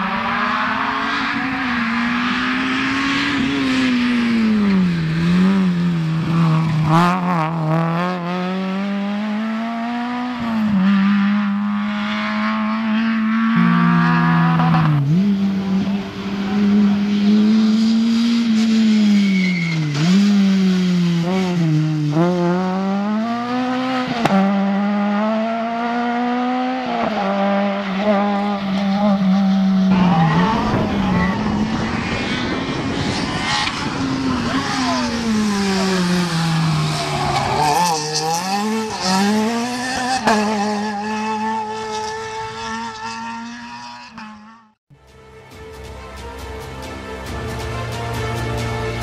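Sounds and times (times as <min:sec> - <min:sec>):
rally car engines revving: 0:00.0 - 0:44.8.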